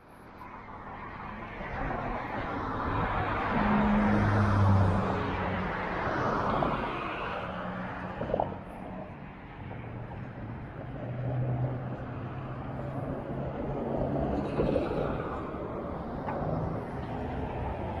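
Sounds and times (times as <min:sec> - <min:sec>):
cars driving along road: 0:00.0 - 0:18.0.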